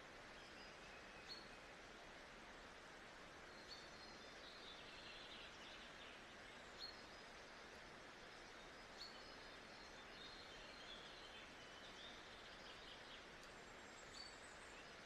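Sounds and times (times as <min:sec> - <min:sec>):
steady soft hiss: 0:00.0 - 0:15.0.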